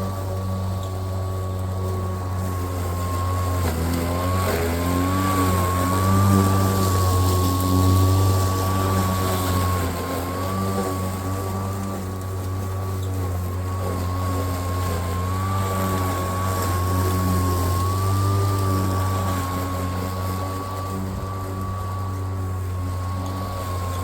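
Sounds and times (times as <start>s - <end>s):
electric lawnmower humming and whining: 0.0s - 24.0s.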